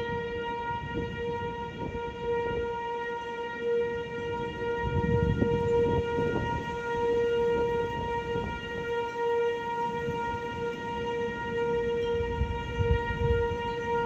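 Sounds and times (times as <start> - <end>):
warning siren steady tone: 0.0 - 14.0
wind rumbling on microphone: 0.0 - 14.0.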